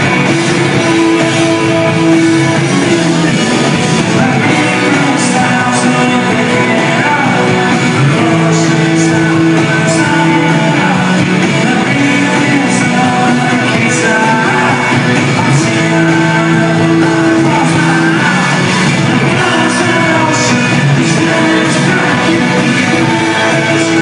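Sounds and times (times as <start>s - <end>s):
live rock band: 0.0s - 24.0s
person singing: 0.0s - 24.0s.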